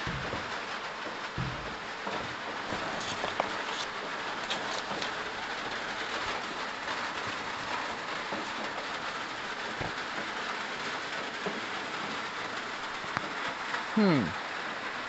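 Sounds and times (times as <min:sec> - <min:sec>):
heavy rain on roof: 0:00.0 - 0:15.0.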